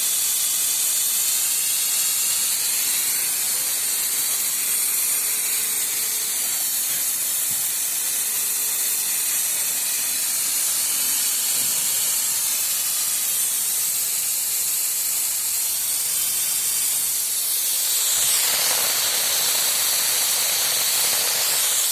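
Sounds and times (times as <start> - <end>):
pressurized spray hissing: 0.0 - 21.9.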